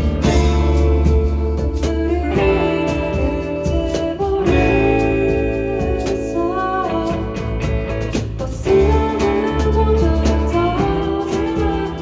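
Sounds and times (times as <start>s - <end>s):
acoustic guitar: 0.0s - 12.0s
low bass notes: 0.0s - 12.0s
person singing: 0.0s - 12.0s.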